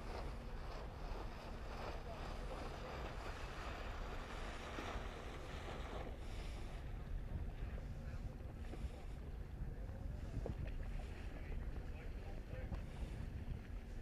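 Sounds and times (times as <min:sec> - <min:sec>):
water rushing along hulls: 0:00.0 - 0:14.0
wind buffeting microphone: 0:00.0 - 0:14.0.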